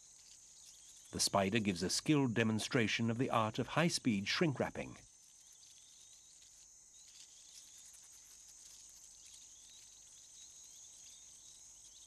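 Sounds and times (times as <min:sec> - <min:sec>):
insect trill and chirps: 0:00.0 - 0:12.0.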